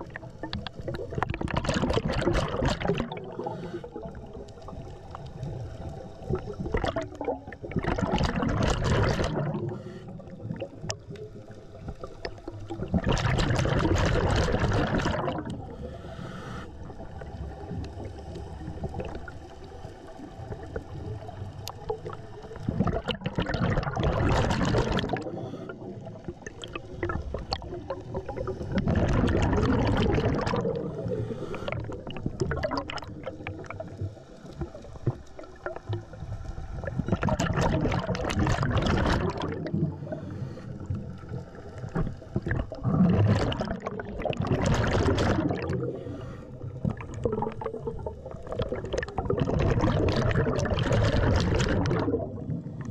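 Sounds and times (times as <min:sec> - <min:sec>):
underwater exhaled bubbles gurgling: 0:00.0 - 0:52.9
underwater water noise: 0:00.0 - 0:52.9.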